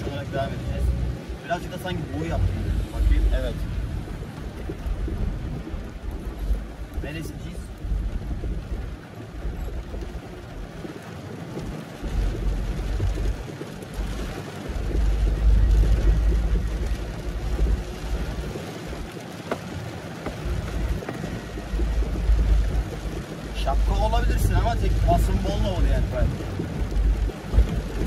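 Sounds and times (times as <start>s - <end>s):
car engine rumble: 0.0s - 28.0s
heavy rain hiss: 0.0s - 28.0s
road noise: 0.0s - 28.0s.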